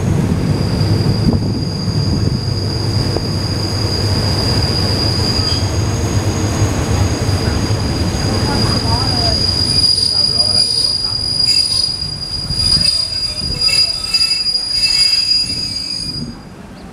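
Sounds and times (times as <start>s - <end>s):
train running gear rumble: 0.0s - 16.9s
train brakes squealing: 0.4s - 6.6s, 7.2s - 16.6s.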